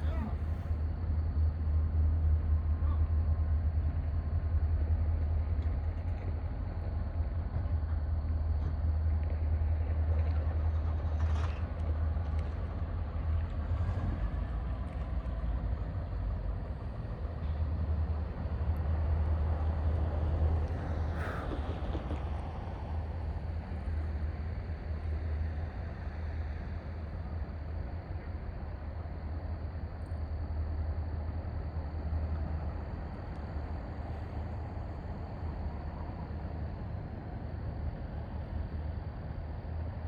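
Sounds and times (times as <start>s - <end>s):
diesel engine rumble: 0.0s - 40.0s.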